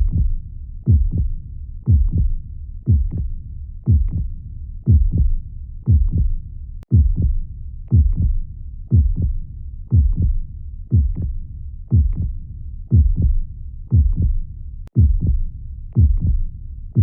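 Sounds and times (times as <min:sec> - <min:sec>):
heartbeat thumping: 0:00.0 - 0:03.3, 0:03.9 - 0:04.3, 0:04.9 - 0:17.0.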